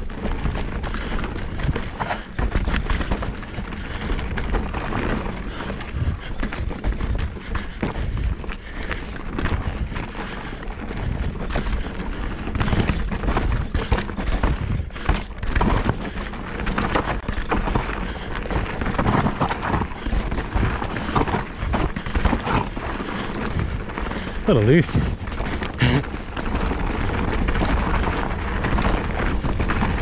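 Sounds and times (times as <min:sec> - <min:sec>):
bike knocks and rattles: 0:00.0 - 0:24.4, 0:25.0 - 0:30.0
bike tyres rolling and skidding on dirt: 0:00.0 - 0:30.0.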